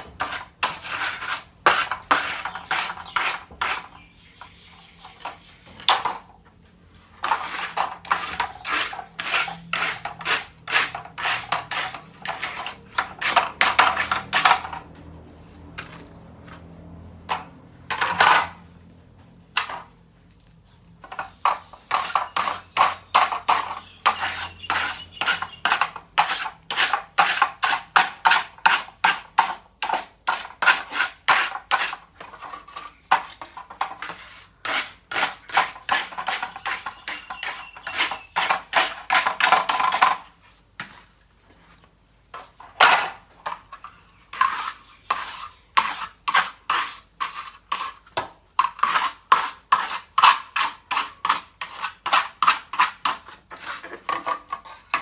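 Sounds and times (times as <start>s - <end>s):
scrubbing strokes on hard surface: 0.0s - 4.0s, 7.0s - 17.4s, 21.1s - 42.8s, 43.5s - 55.0s.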